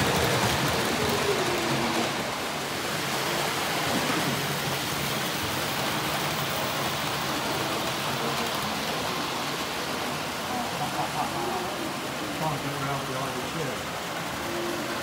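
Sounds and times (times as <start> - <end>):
model train rushing on track: 0.0 - 15.0.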